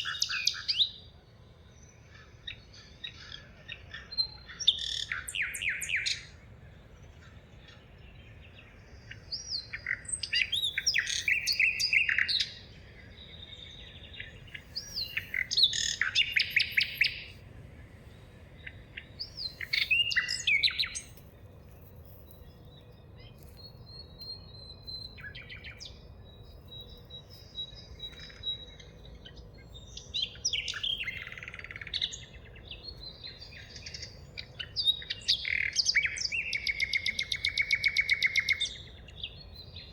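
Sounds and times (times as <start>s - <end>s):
songbirds chirping: 0.0s - 39.9s
faint bird calls: 1.9s - 39.9s.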